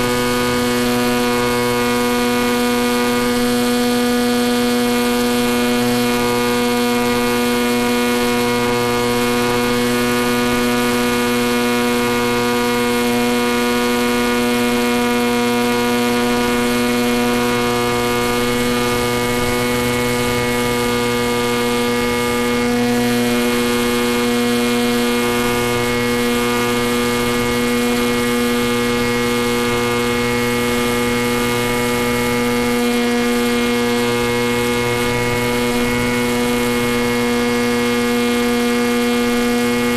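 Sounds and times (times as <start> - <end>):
steady electrical hum-buzz: 0.0 - 39.9.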